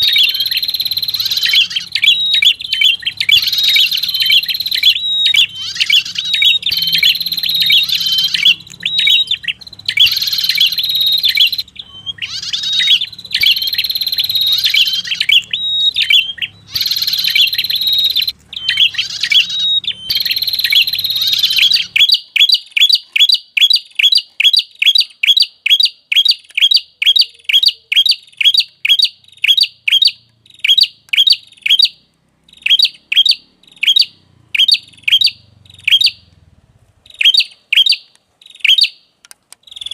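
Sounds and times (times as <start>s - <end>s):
high bird chirping calls: 0.0s - 36.4s, 37.0s - 39.9s.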